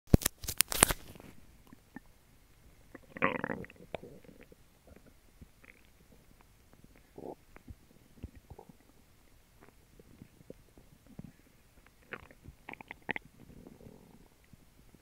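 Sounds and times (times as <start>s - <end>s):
stomach gurgling: 1.6s - 2.2s, 2.8s - 15.0s.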